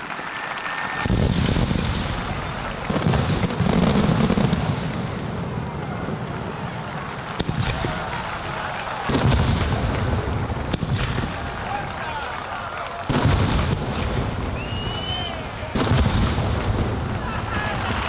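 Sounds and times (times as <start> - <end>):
fireworks cracking: 0.0 - 18.0
fireworks booming: 0.8 - 18.0.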